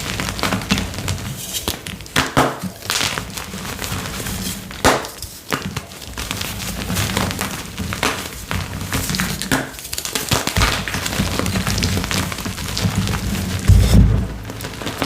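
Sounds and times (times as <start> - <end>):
chalk crunching and crumbling: 0.0 - 15.0
powder falling: 0.0 - 15.0.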